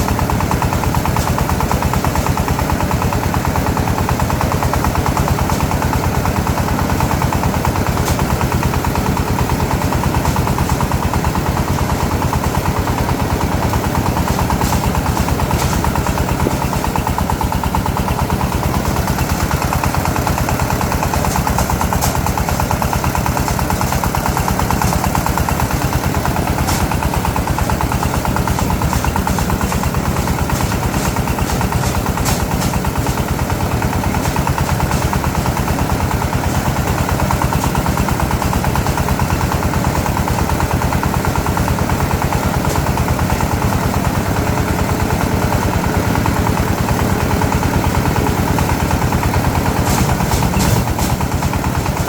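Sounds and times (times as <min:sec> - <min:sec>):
small engine running steadily: 0:00.0 - 0:52.0.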